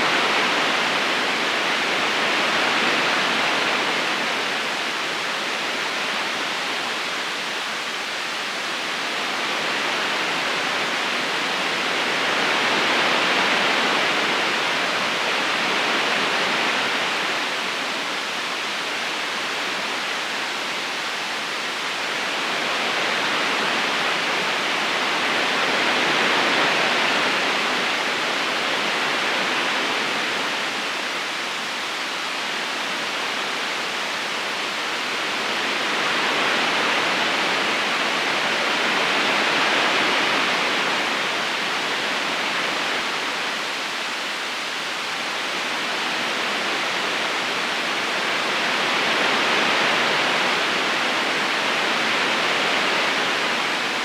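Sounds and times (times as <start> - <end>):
river rushing and babbling: 0.0 - 54.0.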